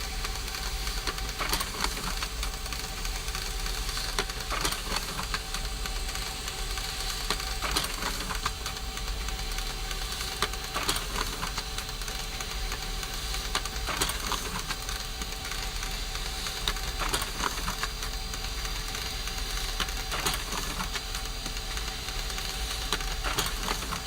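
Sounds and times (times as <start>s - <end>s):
print mechanism clicks and rattles: 0.0s - 24.0s
printer mechanical whir: 0.0s - 24.0s.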